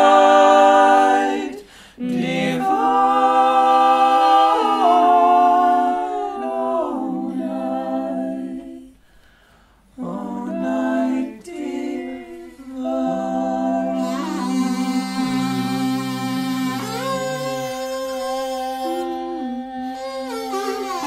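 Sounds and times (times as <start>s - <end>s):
a cappella group singing harmony: 0.0s - 21.0s.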